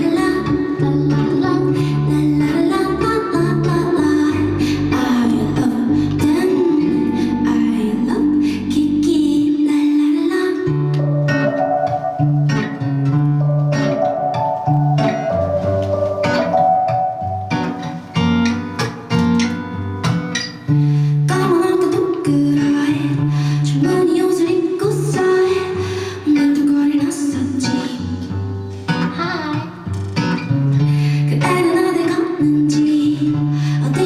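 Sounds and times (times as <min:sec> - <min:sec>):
electric guitar: 0:00.0 - 0:34.0.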